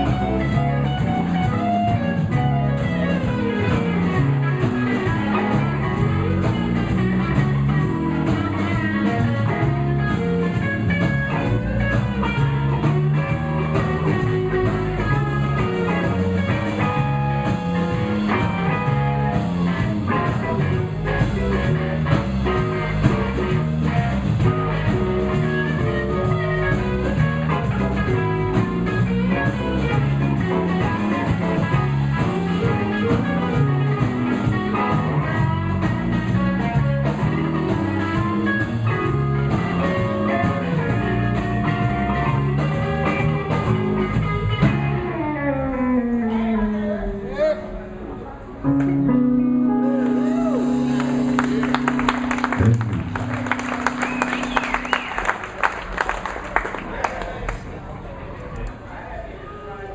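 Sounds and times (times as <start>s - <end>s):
drum kit beat: 0.0s - 45.2s, 49.1s - 56.4s
bass: 0.0s - 58.9s
guitar: 0.0s - 59.9s.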